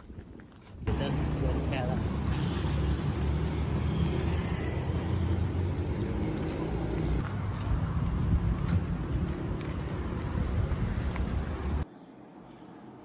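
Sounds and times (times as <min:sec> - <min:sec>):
low rumble of traffic: 0:00.8 - 0:13.0
motorcycle passing: 0:00.9 - 0:11.8
cars passing: 0:00.9 - 0:13.0.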